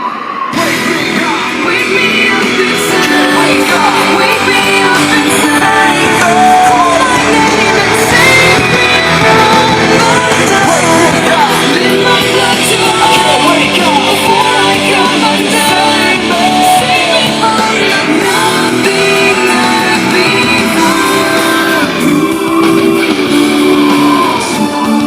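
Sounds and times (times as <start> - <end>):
rock song with singing: 0.0 - 25.0.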